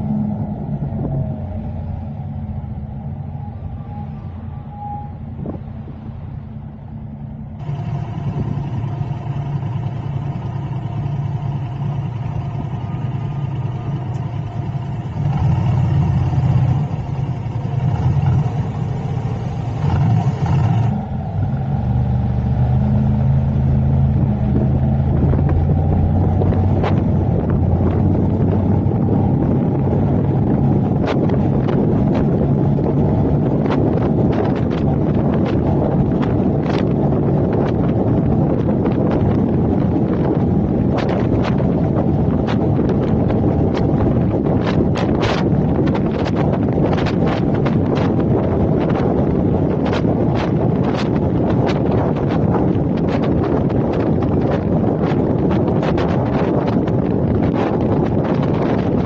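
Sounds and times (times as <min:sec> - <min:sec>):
wind buffeting microphone: 0:00.0 - 0:06.6, 0:07.5 - 0:59.0
car engine and road noise: 0:00.0 - 0:59.0.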